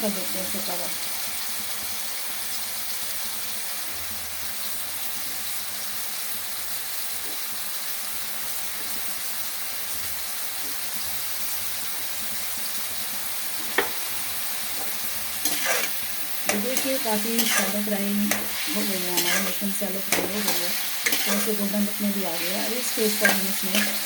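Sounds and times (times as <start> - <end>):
mushrooms sizzling in pan: 0.0 - 24.0.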